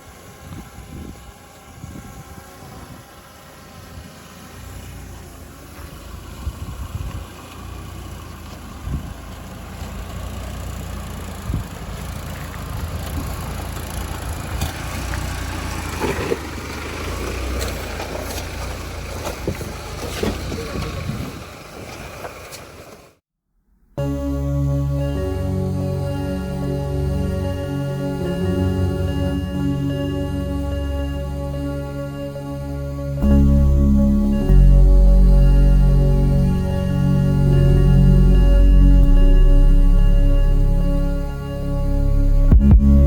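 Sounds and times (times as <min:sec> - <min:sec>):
low engine rumble: 0:00.0 - 0:23.2, 0:23.9 - 0:43.0.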